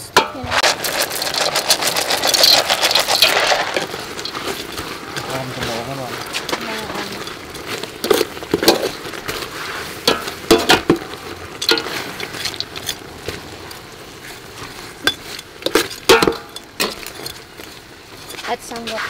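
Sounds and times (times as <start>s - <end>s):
metal spoon scraping a pot: 0.2s - 13.1s, 14.4s - 19.0s.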